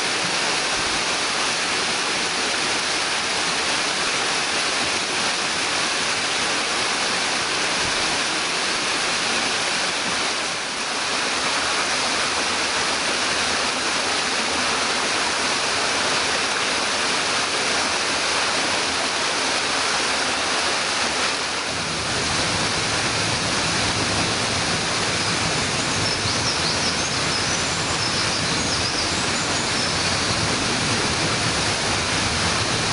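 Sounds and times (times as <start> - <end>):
waterfall rushing over rock: 0.0 - 32.9.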